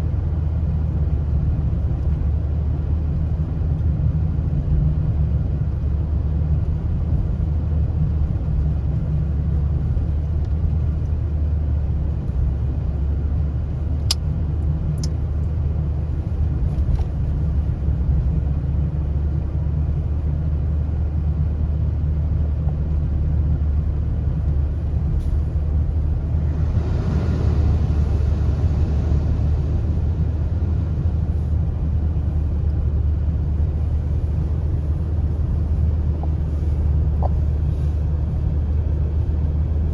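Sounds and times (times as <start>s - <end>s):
car driving rumble: 0.0s - 39.9s
road noise: 0.0s - 39.9s.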